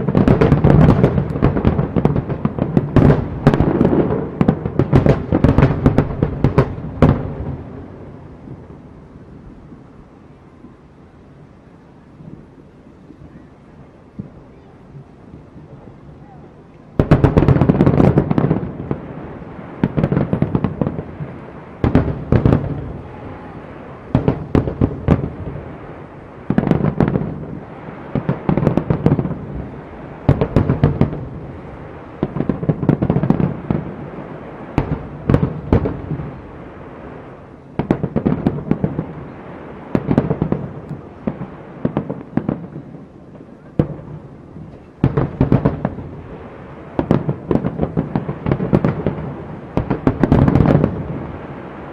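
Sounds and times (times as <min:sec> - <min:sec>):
firework shells booming: 0:00.0 - 0:08.8, 0:17.0 - 0:51.9
fireworks crackling: 0:00.0 - 0:51.9.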